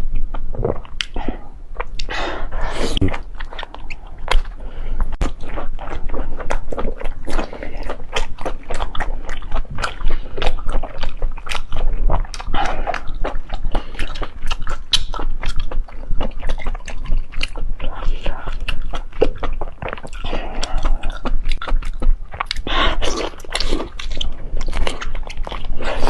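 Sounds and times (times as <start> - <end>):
chewing and biting food: 0.1 - 26.0.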